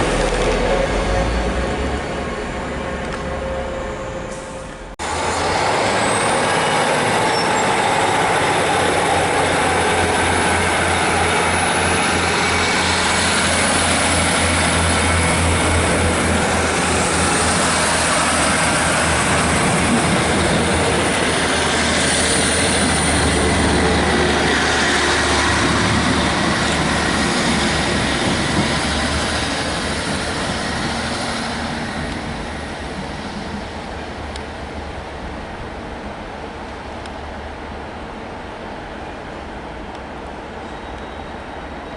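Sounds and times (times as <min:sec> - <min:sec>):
train rail noise: 0:00.0 - 0:41.9.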